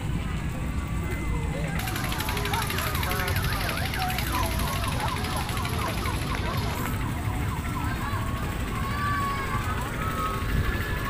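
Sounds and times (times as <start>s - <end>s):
warbling electronic siren: 1.2s - 11.0s.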